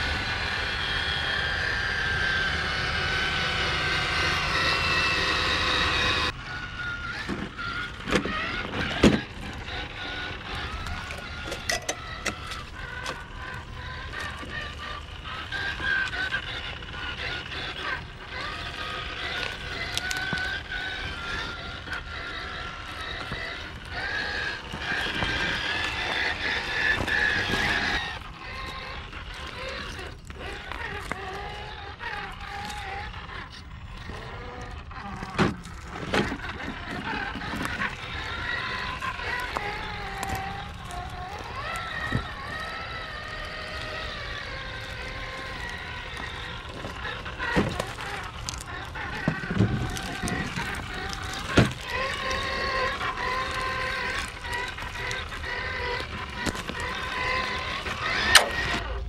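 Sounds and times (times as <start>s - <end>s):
toy car motor whine: 0.0s - 59.0s.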